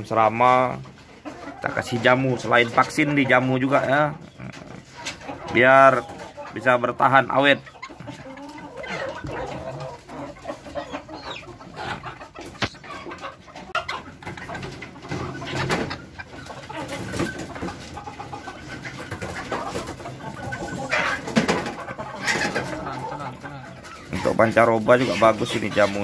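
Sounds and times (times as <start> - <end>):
birds clucking and cooing: 0.0 - 26.0.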